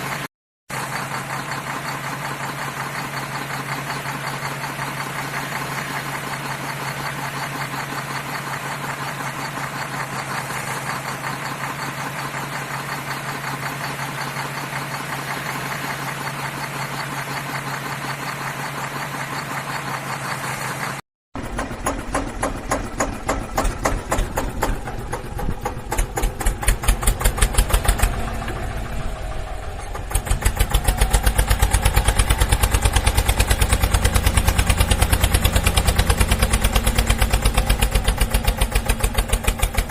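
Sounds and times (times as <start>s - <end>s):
vehicle engine chugging: 0.0s - 39.9s.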